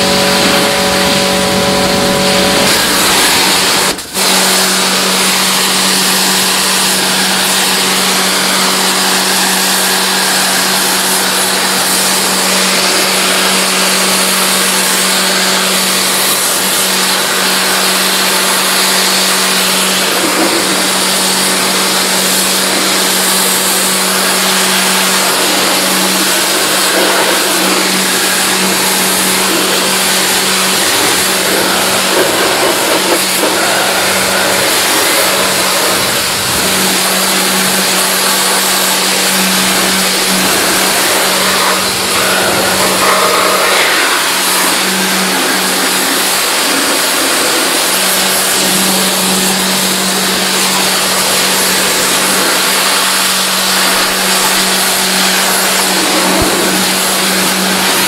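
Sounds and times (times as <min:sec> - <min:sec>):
loud hiss: 0:00.0 - 0:58.0
machine motor hum: 0:00.0 - 0:58.0.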